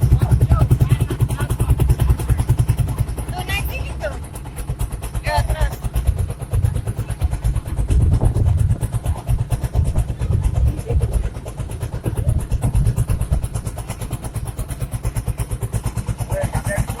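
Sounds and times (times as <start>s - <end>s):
small boat engine thudding: 0.0s - 17.0s.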